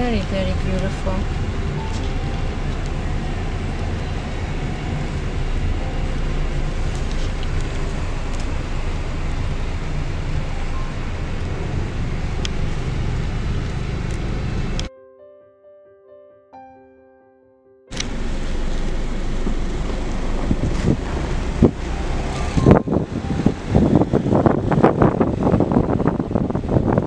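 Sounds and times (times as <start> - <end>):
car road and engine rumble: 0.0 - 14.9, 17.9 - 27.0.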